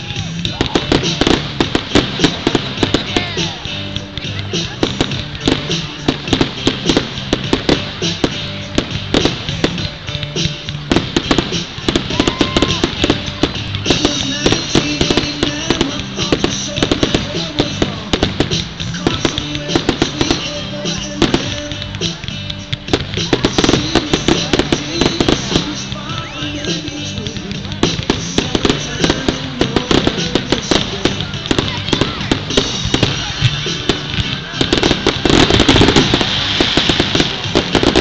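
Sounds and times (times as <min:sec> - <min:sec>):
fireworks bangs and crackling: 0:00.0 - 0:38.0
music: 0:00.0 - 0:38.0.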